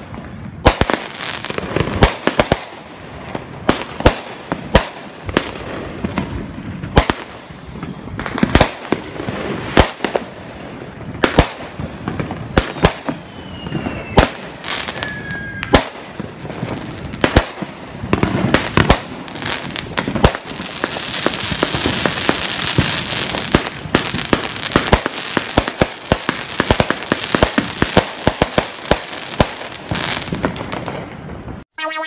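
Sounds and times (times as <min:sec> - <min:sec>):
fireworks crackling and popping: 0:00.0 - 0:31.7
fireworks shots with sharp reports: 0:00.0 - 0:32.0.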